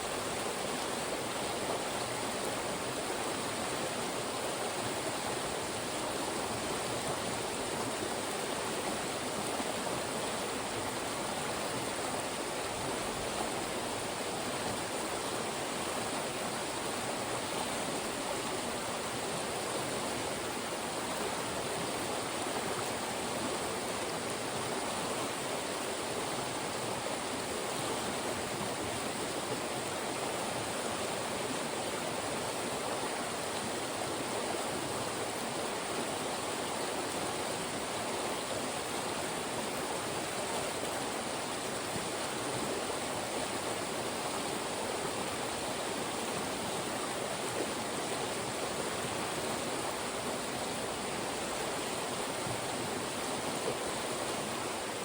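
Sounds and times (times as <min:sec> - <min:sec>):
mountain stream rushing over rocks: 0:00.0 - 0:55.0.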